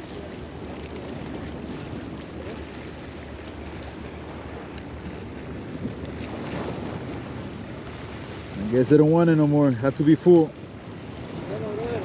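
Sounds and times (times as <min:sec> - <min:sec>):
seawater washing against rocks: 0:00.0 - 0:12.0.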